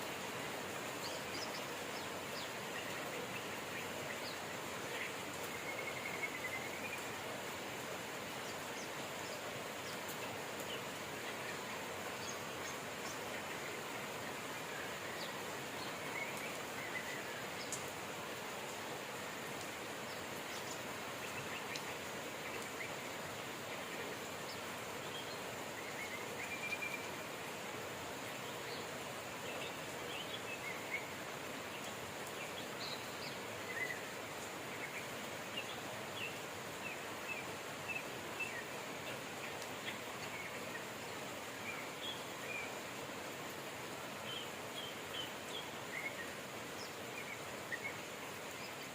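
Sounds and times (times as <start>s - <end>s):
birds chirping: 0.0s - 48.9s
steady rain: 0.0s - 48.9s.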